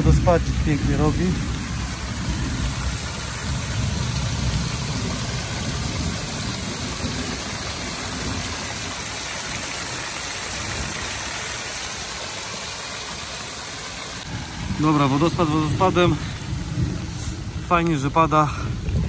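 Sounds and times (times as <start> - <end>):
water pouring into channel: 0.0 - 19.0.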